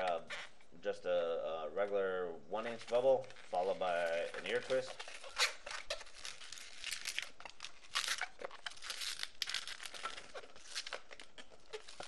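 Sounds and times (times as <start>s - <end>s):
balloon rubber rubbing and squeaking: 0.0s - 0.6s, 2.9s - 12.0s.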